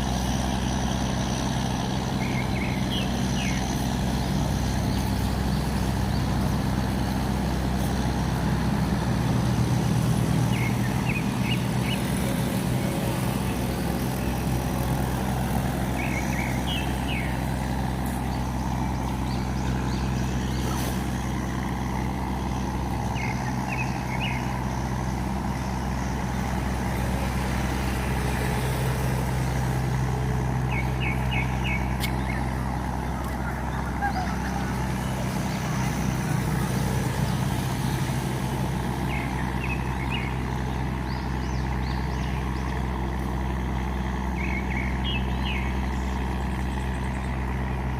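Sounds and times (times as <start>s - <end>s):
diesel engine drone: 0.0s - 47.9s.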